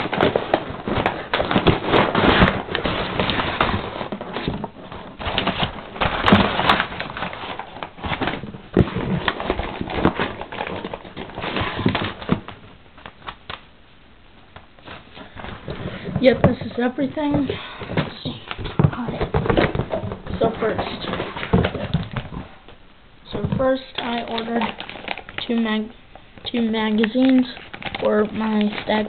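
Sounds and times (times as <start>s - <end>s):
packaging crinkling and rustling: 0.0s - 13.7s, 14.5s - 29.0s.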